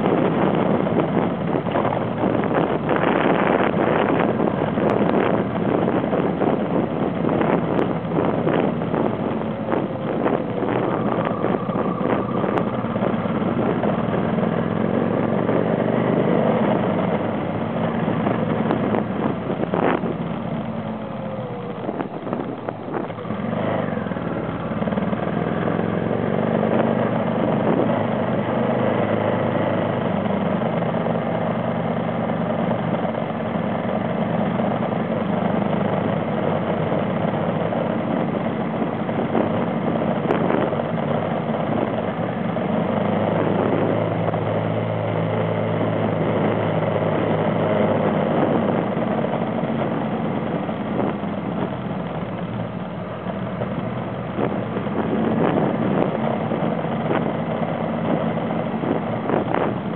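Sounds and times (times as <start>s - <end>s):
off-road vehicle engine running: 0.0s - 59.9s
road and wind noise: 0.0s - 59.9s.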